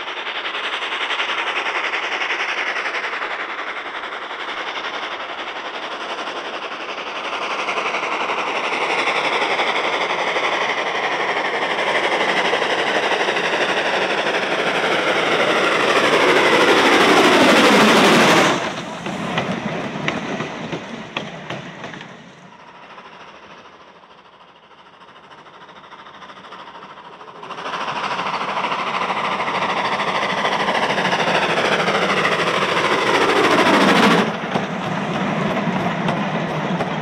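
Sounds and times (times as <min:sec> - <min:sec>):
carriage wheels clicking on rail joints: 0:00.0 - 0:37.0
train passing loudly: 0:00.0 - 0:37.0.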